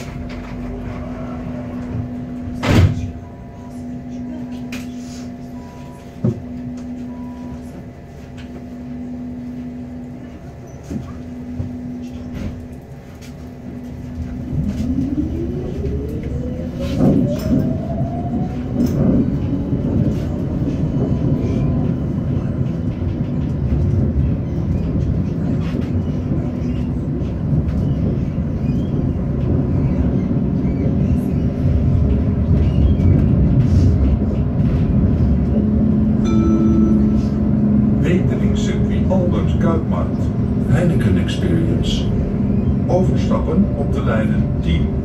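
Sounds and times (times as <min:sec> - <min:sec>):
tram hum: 0:00.0 - 0:45.0
tram motor whine: 0:00.0 - 0:45.0
wheels rumbling on rails: 0:00.0 - 0:45.0.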